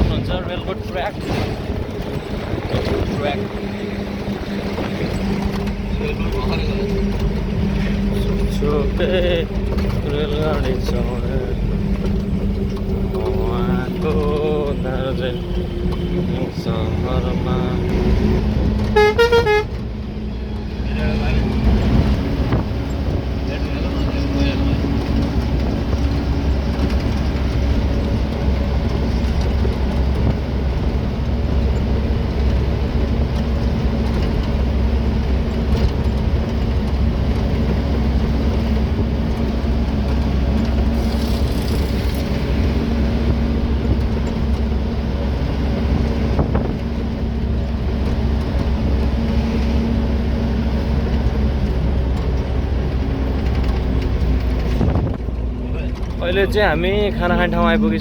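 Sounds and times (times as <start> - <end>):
road rumble: 0.0 - 58.0
truck diesel engine drone: 0.0 - 58.0.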